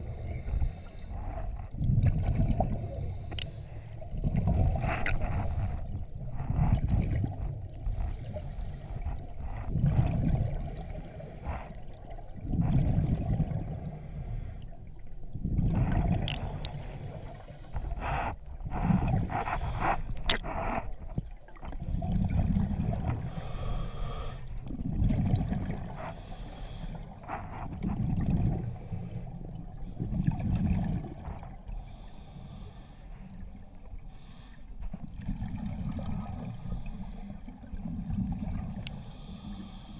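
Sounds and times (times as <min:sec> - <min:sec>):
exhaled bubbles underwater: 0:00.0 - 0:03.2, 0:04.0 - 0:14.0, 0:14.7 - 0:23.8, 0:24.5 - 0:31.7, 0:34.9 - 0:39.0.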